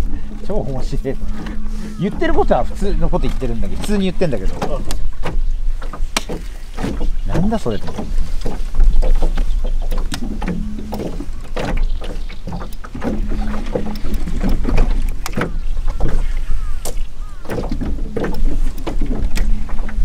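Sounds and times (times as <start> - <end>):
hum: 0.0 - 7.2, 8.0 - 20.0
boat engine low rumble: 0.0 - 20.0
knocks and clicks on hull: 0.0 - 20.0.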